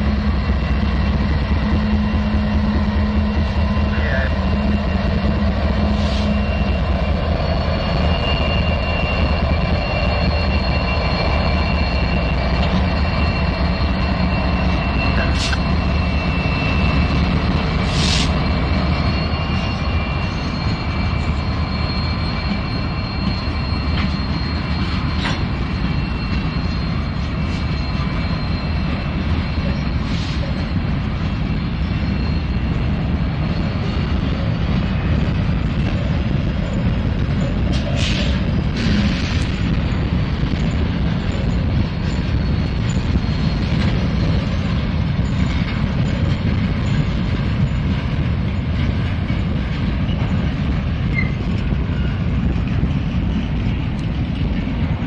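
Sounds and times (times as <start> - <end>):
short train screeches: 0.0 - 54.4
high wheel squeal: 0.0 - 55.0
train wheels rumbling on rail: 0.0 - 55.0.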